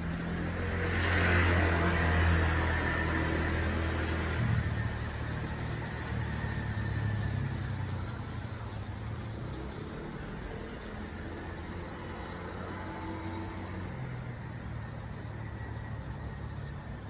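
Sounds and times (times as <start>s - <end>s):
low traffic rumble: 0.0s - 17.0s
wind: 0.0s - 17.0s.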